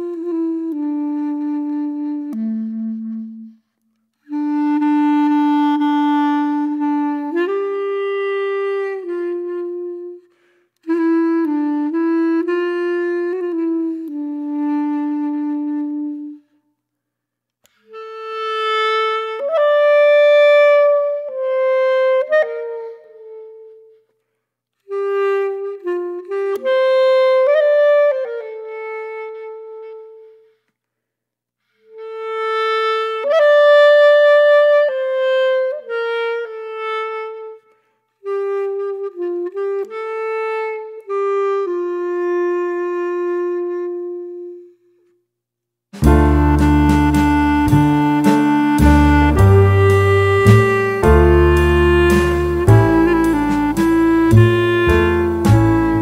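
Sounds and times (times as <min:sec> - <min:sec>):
slow solo woodwind melody: 0:00.0 - 0:16.6, 0:17.6 - 0:24.2, 0:24.8 - 0:30.6, 0:31.7 - 0:45.2, 0:46.0 - 0:56.0.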